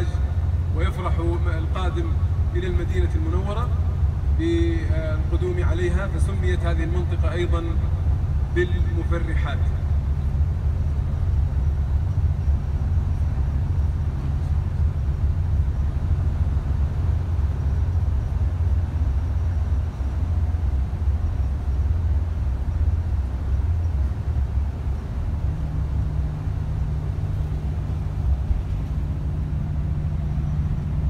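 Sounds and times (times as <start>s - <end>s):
bus engine and road rumble: 0.0s - 31.0s.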